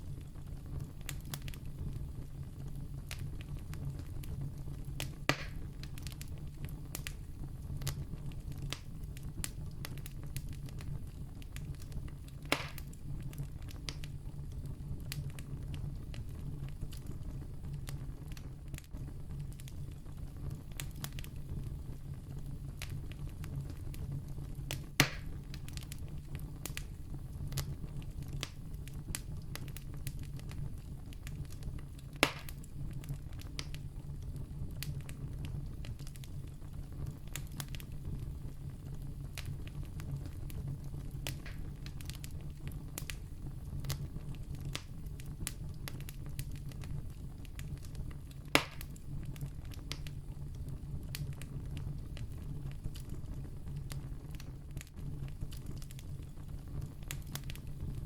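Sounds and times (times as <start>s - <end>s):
campfire crackling: 0.0s - 58.0s
sharp fire pops: 0.1s - 58.0s.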